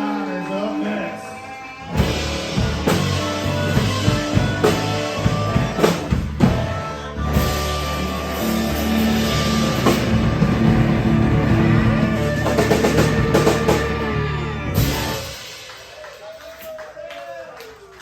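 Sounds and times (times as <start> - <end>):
rock music with drums and guitar: 1.2 - 16.1.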